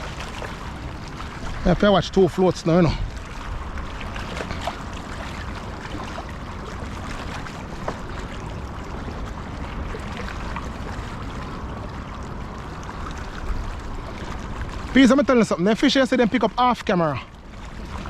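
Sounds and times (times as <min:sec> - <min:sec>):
water moving: 0:00.0 - 0:18.0.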